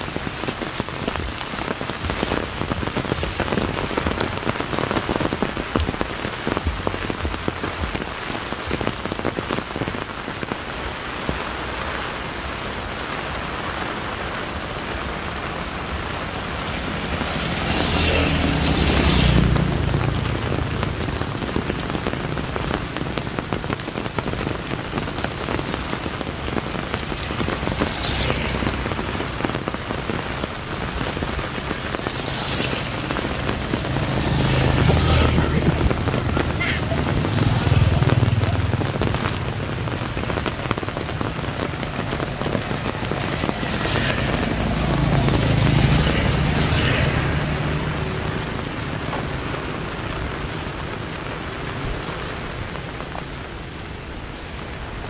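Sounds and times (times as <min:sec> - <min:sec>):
rushing noise with low rumble: 0:00.0 - 0:55.0
steady rain falling: 0:00.0 - 0:55.0.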